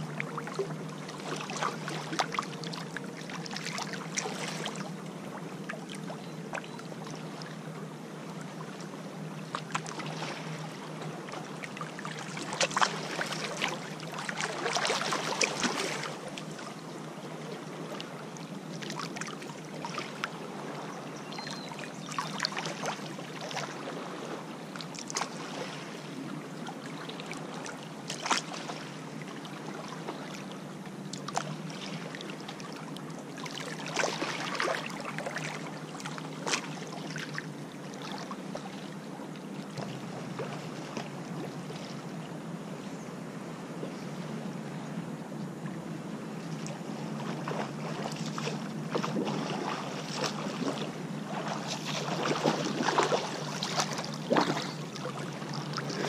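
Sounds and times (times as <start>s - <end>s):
lake waves lapping against rock: 0.0s - 7.5s, 8.6s - 42.0s, 46.4s - 56.0s
steady low hum: 0.0s - 56.0s.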